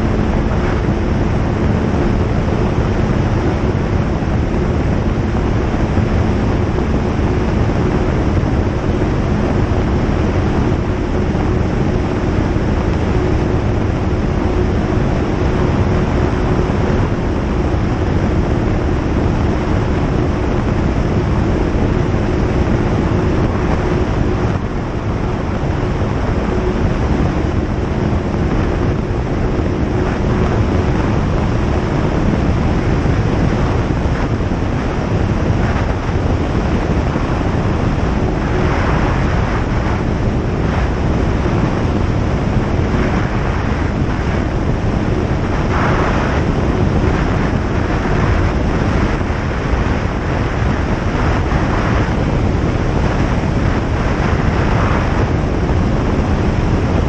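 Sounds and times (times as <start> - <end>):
light airplane engine: 0.0 - 57.0
wind rushing: 0.0 - 57.0.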